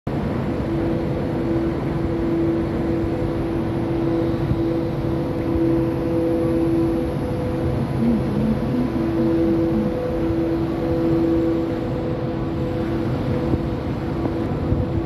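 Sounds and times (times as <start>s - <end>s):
machinery rumble: 0.1s - 15.0s
two-note hum: 1.2s - 15.0s.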